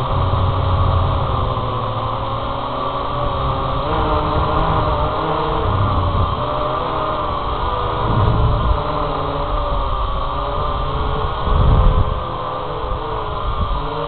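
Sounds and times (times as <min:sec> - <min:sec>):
drone propellers whining: 0:00.0 - 0:14.0
wind rumble: 0:00.0 - 0:14.0.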